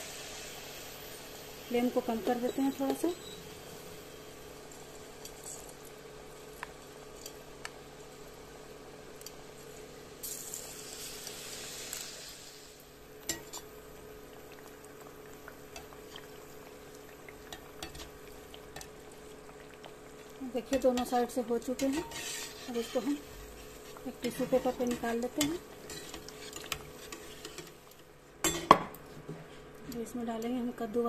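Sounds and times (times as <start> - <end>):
potatoes deep-frying in oil: 0.0 - 28.8, 29.9 - 31.0.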